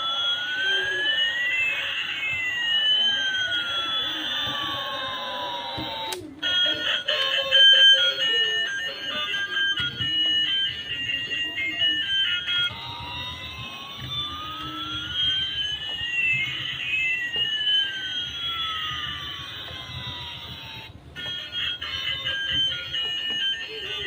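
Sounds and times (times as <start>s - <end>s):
synthetic toy tones gliding: 0.0s - 24.0s.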